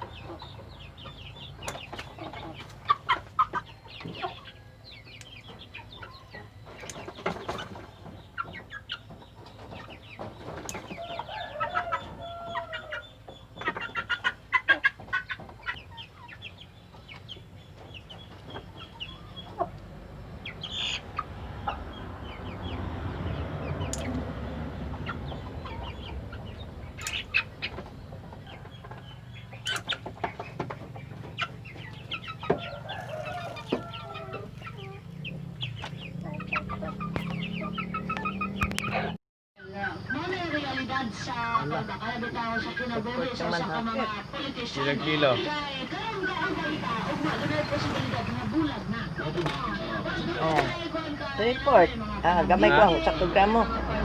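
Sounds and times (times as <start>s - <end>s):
background noise: 0.0s - 54.0s
chickens clucking and peeping: 0.0s - 54.0s.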